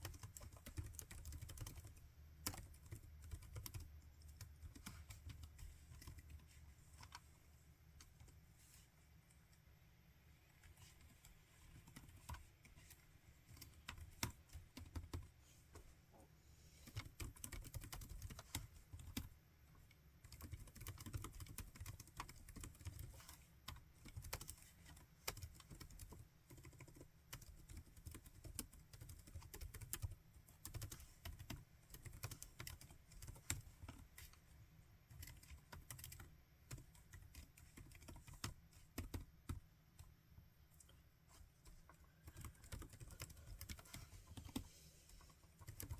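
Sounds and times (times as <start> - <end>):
typing on laptop keyboard: 0.0 - 7.3, 10.6 - 15.8, 16.8 - 34.4, 35.0 - 45.9.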